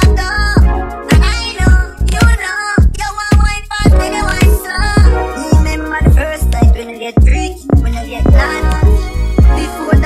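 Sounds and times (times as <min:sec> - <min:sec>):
deep kick drum: 0:00.0 - 0:10.0
hip hop music: 0:00.0 - 0:10.0.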